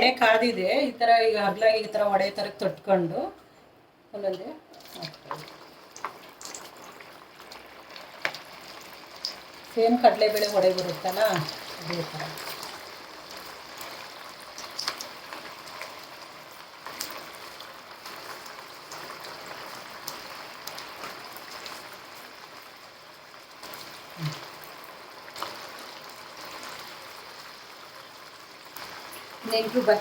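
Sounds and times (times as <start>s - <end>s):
food deep-frying in oil: 4.2s - 30.0s.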